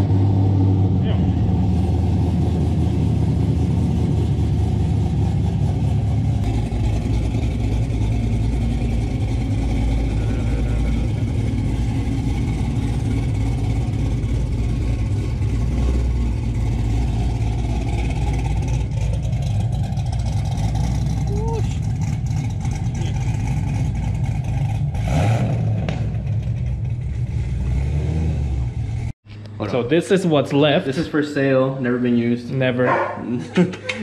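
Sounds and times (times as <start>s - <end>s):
car engine low rumble: 0.0s - 34.0s.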